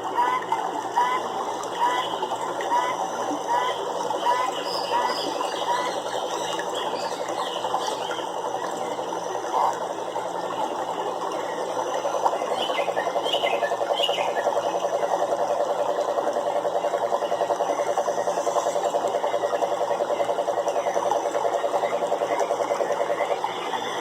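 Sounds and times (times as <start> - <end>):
frogs calling in pulsing rhythm: 0.0 - 24.0.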